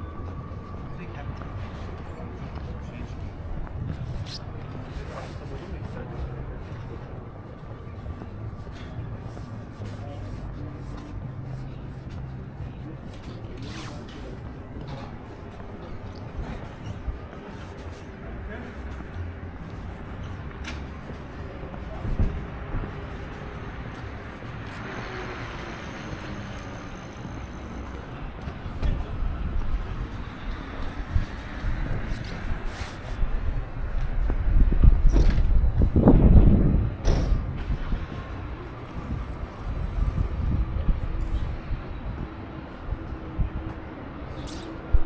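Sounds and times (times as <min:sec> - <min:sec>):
low city rumble: 0:00.0 - 0:45.0.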